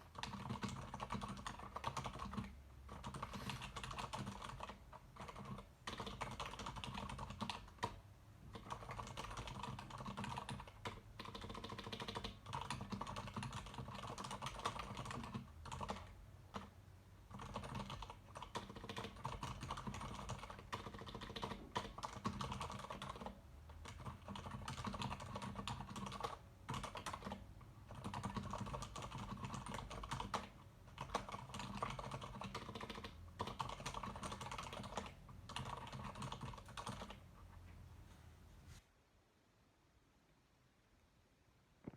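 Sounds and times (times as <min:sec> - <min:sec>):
typing on mechanical keyboard: 0:00.0 - 0:16.7, 0:17.3 - 0:37.2.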